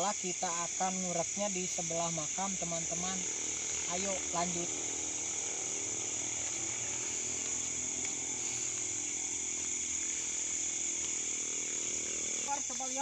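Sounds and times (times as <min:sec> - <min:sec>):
crickets and night insects trilling: 0:00.0 - 0:13.0.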